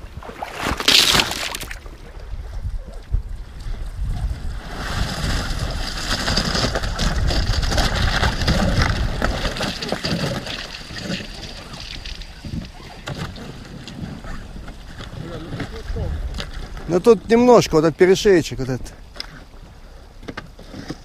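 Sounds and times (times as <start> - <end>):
river ice crackling: 0.3 - 2.0, 3.8 - 21.0
wind buffeting microphone: 1.8 - 19.7.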